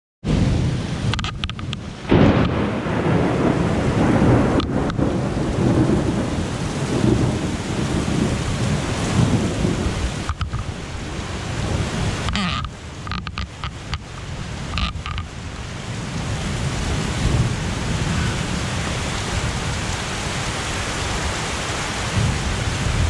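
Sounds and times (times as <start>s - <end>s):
thunder crack and rumble: 0.2s - 20.0s, 22.1s - 23.0s
heavy rain falling: 0.3s - 23.0s.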